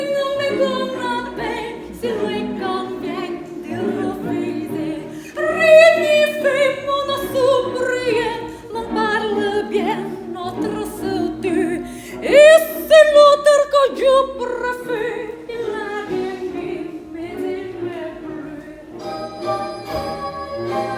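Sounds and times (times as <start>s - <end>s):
soprano singing operatic melody: 0.0s - 20.9s.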